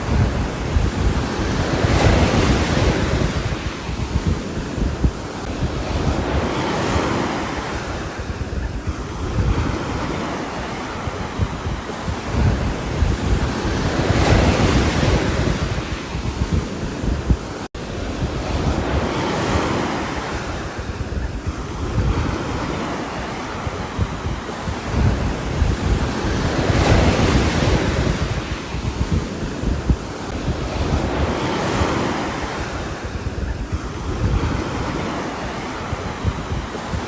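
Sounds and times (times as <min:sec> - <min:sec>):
gusting wind: 0:00.0 - 0:37.0.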